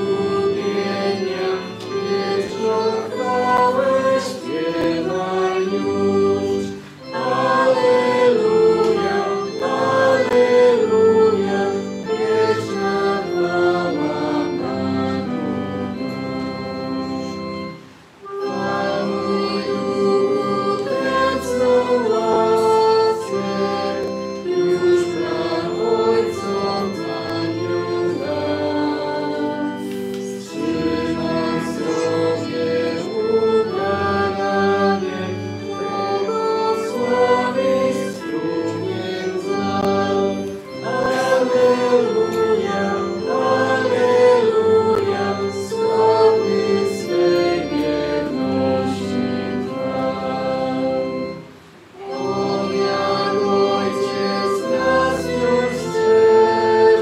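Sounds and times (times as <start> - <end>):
congregation singing a hymn: 0.0 - 57.0
sustained keyboard chords: 0.0 - 57.0.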